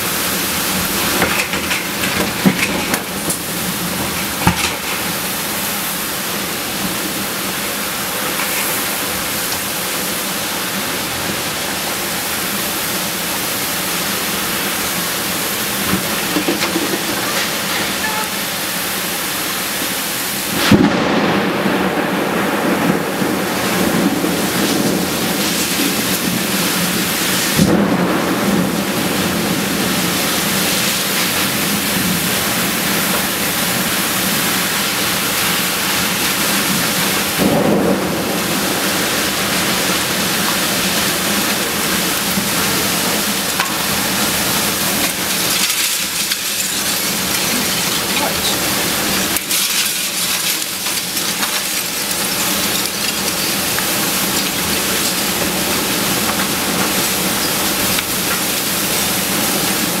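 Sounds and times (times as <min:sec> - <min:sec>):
torrential wind-driven rain: 0:00.0 - 1:00.0.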